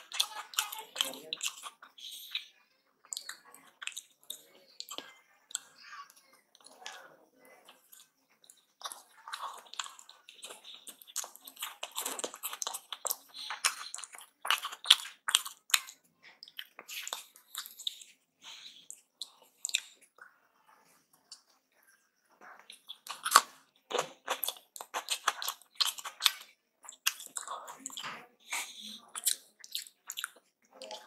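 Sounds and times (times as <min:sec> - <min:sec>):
wet chewing clicks and smacks: 0:00.0 - 0:20.4, 0:22.5 - 0:31.0.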